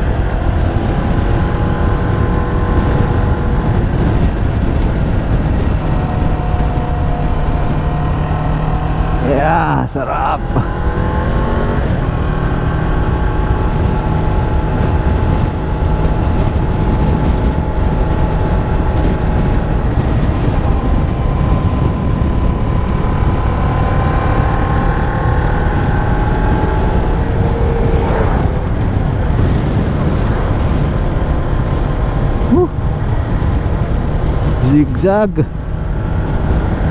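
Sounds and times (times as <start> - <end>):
motorcycle engine running: 0.0 - 36.9
wind rush on microphone: 0.0 - 36.9.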